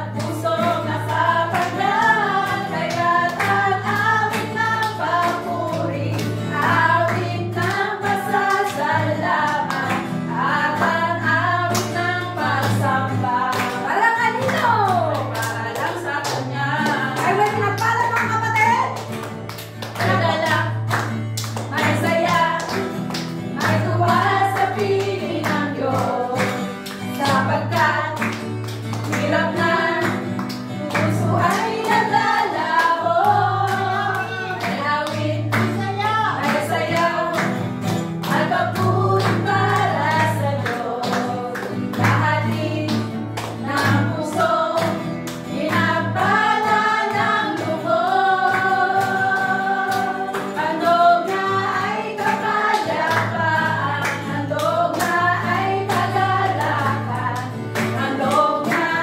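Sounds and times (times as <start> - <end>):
women singing worship song: 0.0 - 19.0, 20.0 - 59.0
strummed acoustic guitar: 0.0 - 59.0.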